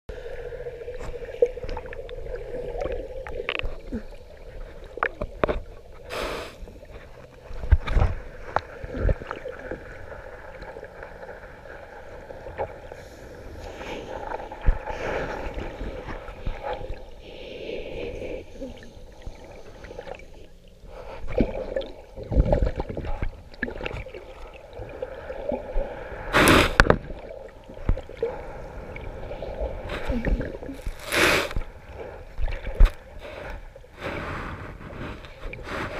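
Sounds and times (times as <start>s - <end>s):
muffled underwater water movement: 0.1s - 35.9s.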